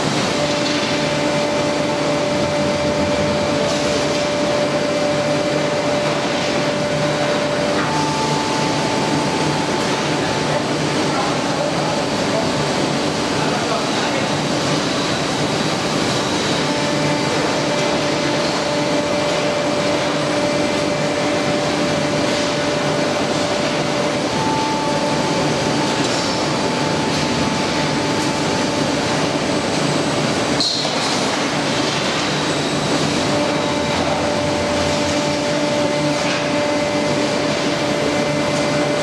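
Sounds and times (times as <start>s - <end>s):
palletizing line machinery running: 0.0s - 39.0s.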